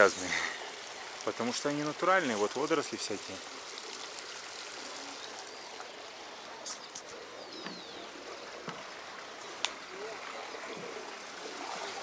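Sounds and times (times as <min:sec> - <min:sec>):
water trickling through stone channels: 0:00.0 - 0:12.0.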